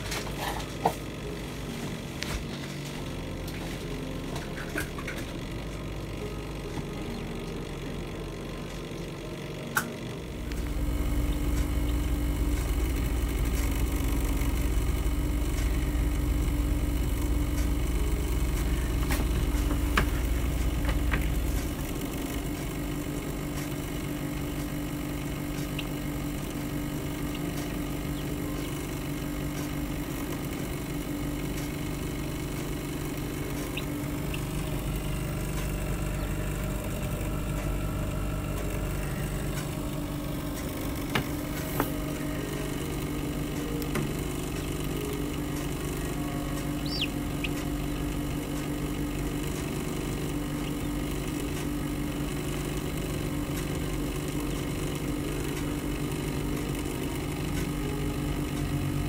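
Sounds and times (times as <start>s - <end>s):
deep loud hum: 0.0s - 59.0s
small computer fan hum: 0.0s - 59.0s.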